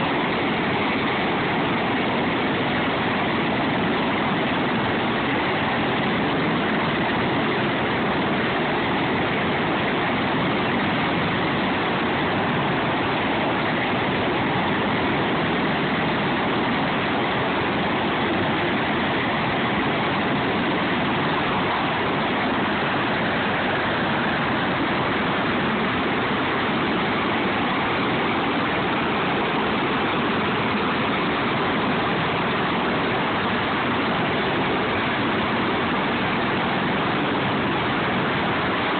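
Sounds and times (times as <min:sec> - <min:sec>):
helicopter turbines and rotors: 0:00.0 - 0:38.9.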